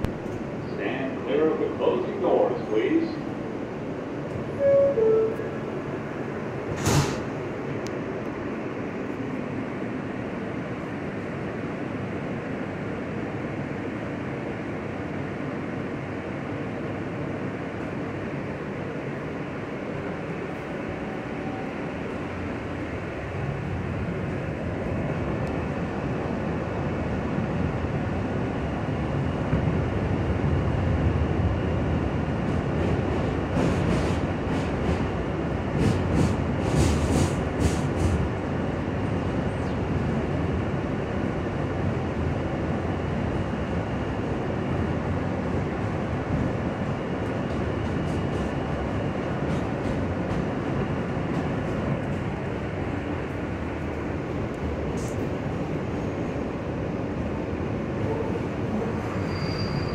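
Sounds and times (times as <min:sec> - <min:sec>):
subway train running noise: 0:00.0 - 0:59.9.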